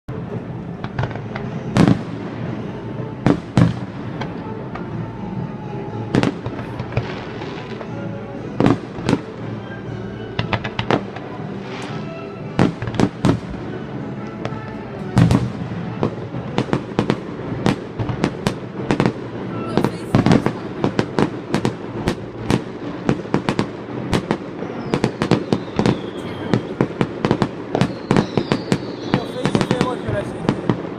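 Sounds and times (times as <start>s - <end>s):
fireworks bangs and pops: 0.1s - 5.0s, 6.1s - 8.0s, 8.6s - 9.6s, 10.4s - 30.9s.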